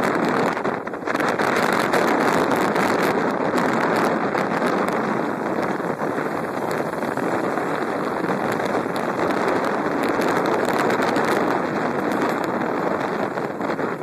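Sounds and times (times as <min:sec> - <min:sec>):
wind rush over microphone: 0:00.0 - 0:14.0.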